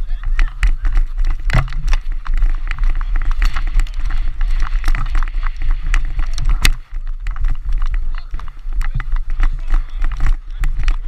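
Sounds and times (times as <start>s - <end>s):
clicks and knocks of sticks: 0.0s - 11.0s
wind buffeting microphone: 0.0s - 11.0s.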